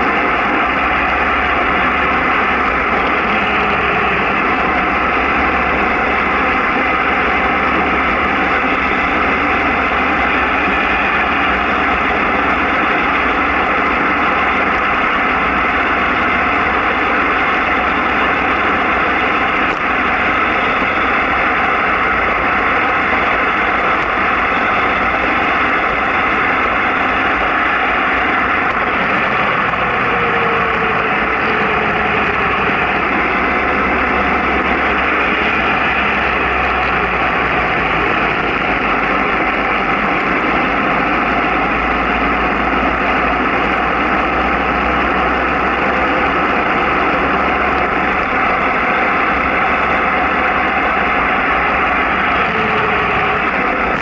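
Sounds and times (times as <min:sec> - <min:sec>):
vehicle travel noise: 0:00.0 - 0:54.0.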